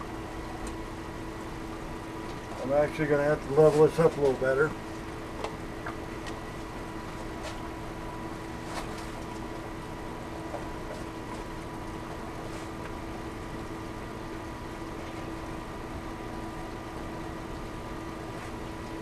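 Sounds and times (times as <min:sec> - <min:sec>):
water pump humming: 0:00.0 - 0:19.0.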